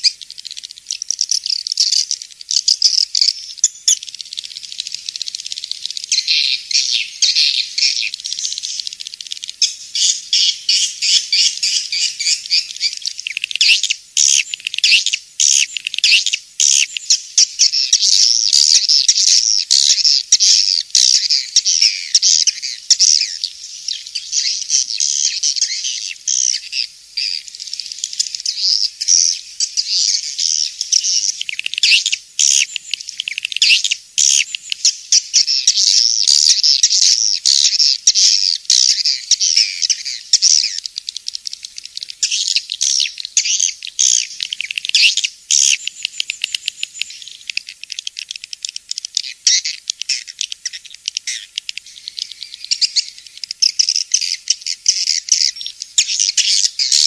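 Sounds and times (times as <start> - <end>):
swiftlets chattering twitter: 0.0 - 57.0.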